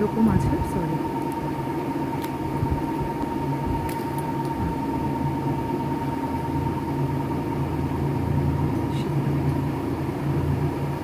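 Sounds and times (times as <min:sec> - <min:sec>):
low mechanical rumble and hum: 0:00.0 - 0:11.0.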